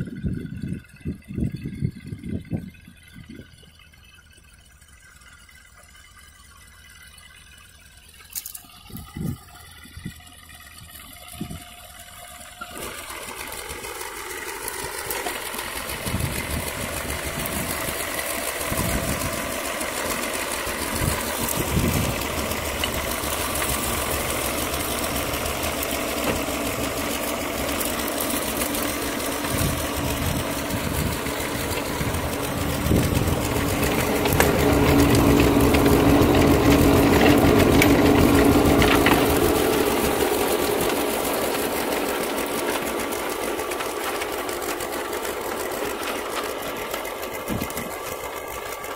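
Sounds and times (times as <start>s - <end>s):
rotary tiller churning soil: 0.0s - 48.9s
tractor engine running under load: 0.0s - 48.9s.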